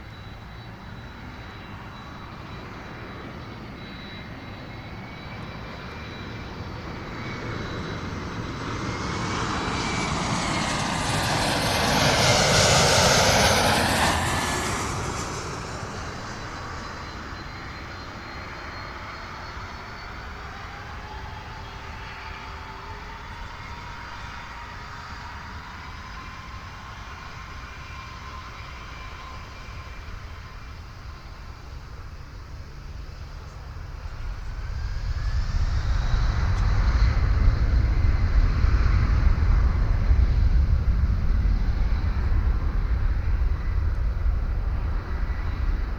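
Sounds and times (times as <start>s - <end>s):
airliner engine noise overhead: 0.0s - 45.9s.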